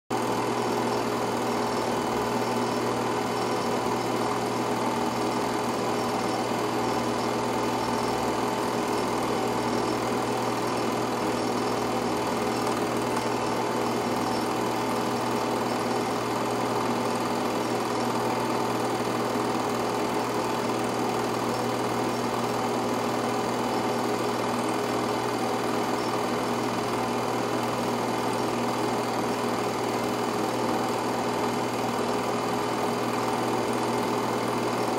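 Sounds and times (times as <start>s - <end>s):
film projector whirring and rattling: 0.1s - 34.9s.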